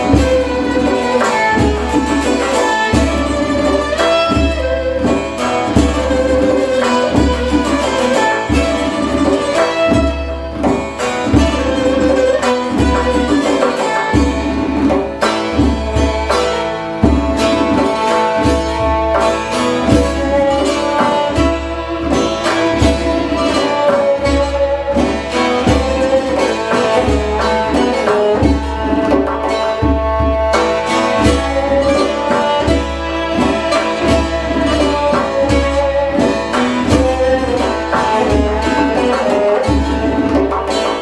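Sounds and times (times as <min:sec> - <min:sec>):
hand drum beats: 0:00.0 - 0:41.0
plucked lute: 0:00.0 - 0:41.0
violin melody: 0:00.0 - 0:41.0.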